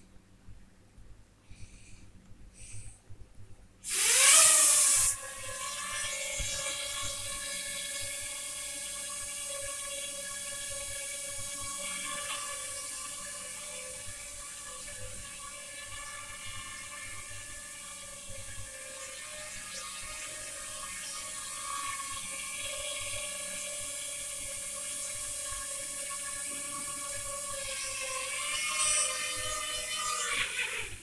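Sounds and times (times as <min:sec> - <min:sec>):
toy drone propellers whirring: 0:03.8 - 0:31.0.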